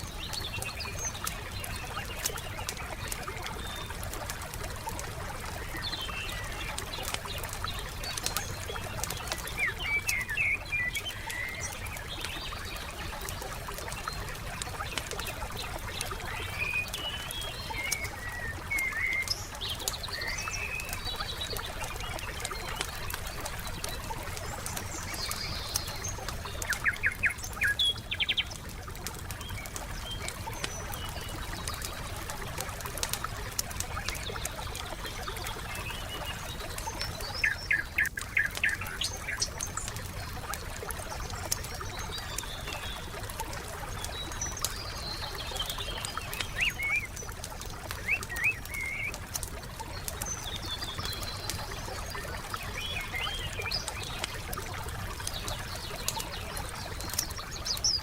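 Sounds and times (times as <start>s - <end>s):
songbirds chirping: 0.0s - 58.0s
wood fire crackling: 0.0s - 58.0s.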